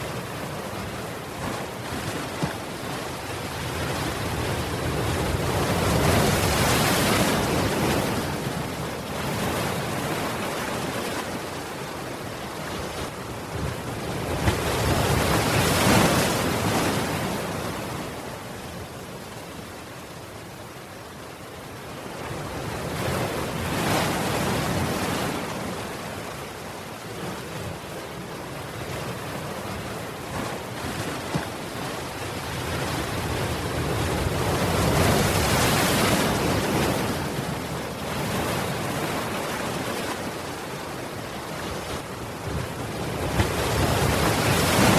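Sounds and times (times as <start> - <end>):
ocean surf breaking: 0.0 - 19.7, 21.7 - 44.9.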